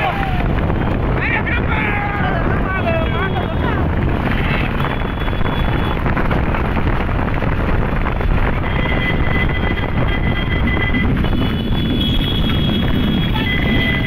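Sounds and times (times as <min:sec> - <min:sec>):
motorcycle engines running: 0:00.0 - 0:14.0
wind rushing over microphone: 0:00.0 - 0:14.0.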